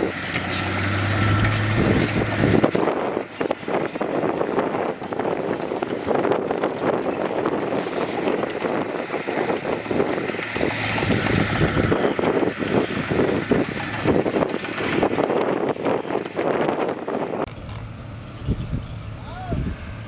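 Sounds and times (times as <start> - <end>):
machinery clattering and knocking: 0.0 - 18.0
faint engine hum: 0.0 - 20.0.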